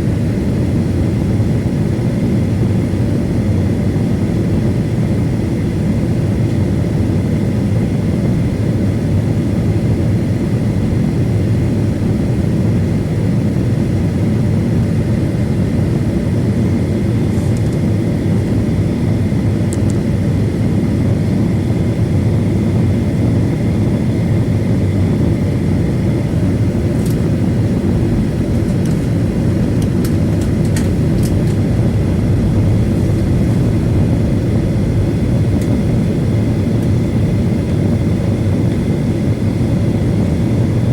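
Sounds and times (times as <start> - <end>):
jet engines rumbling in cabin: 0.0 - 40.9.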